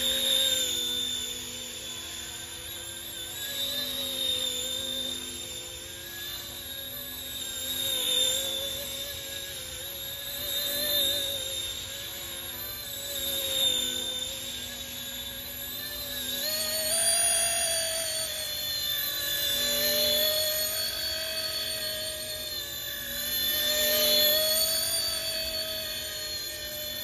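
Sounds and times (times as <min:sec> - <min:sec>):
small helicopter motor whine: 0:00.0 - 0:27.0.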